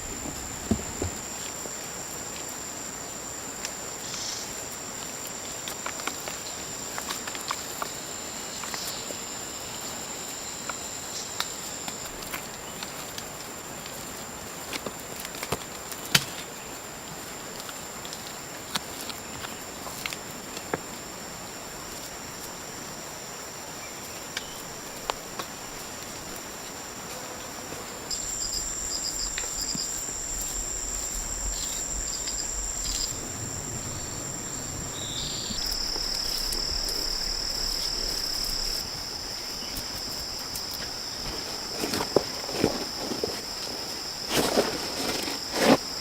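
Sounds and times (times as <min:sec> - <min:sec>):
insects singing in chorus: 0:00.0 - 0:46.0.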